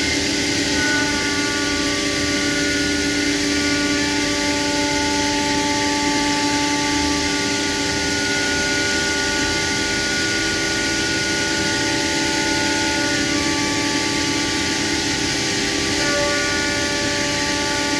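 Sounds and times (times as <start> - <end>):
machine whine: 0.0 - 17.9.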